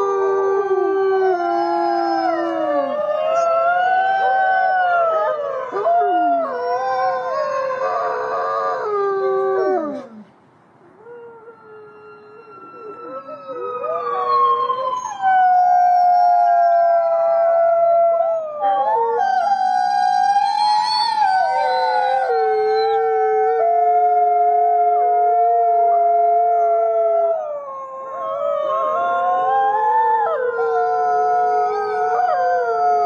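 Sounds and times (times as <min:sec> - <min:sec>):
dogs howling: 0:00.0 - 0:10.2, 0:11.1 - 0:33.0.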